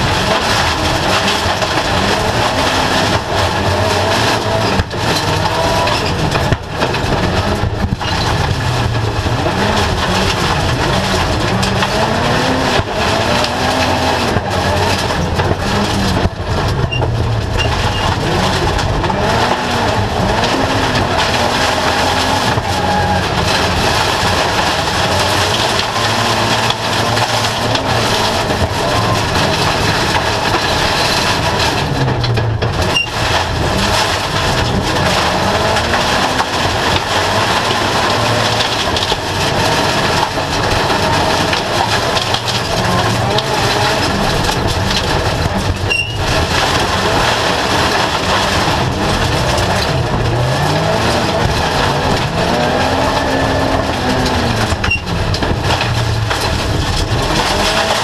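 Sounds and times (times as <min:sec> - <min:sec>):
car body knocks and rattles: 0:00.0 - 0:58.0
race car engine revving: 0:00.0 - 0:58.0.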